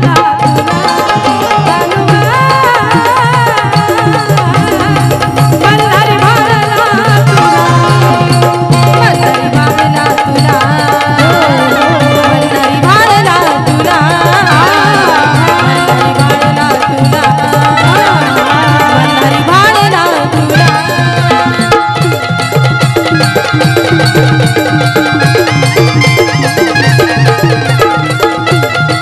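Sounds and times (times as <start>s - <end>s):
drum steady driving beat: 0.0s - 29.0s.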